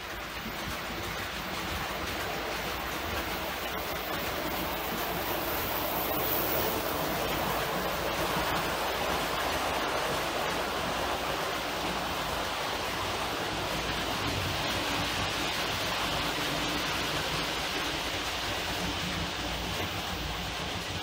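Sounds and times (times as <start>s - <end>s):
model train rumbling whir: 0.0s - 21.0s.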